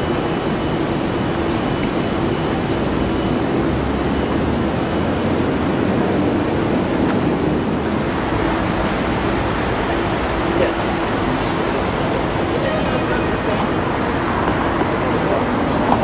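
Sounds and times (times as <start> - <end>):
constant low hum: 0.0 - 16.0
street traffic rumble: 0.0 - 16.0.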